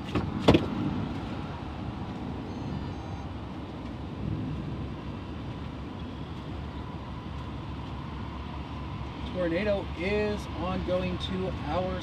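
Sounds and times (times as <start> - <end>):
road rumble inside car: 0.0 - 12.0.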